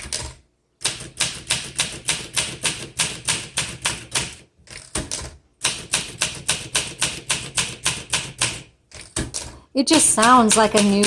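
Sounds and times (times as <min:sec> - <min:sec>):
manual typewriter typing: 0:00.0 - 0:11.0.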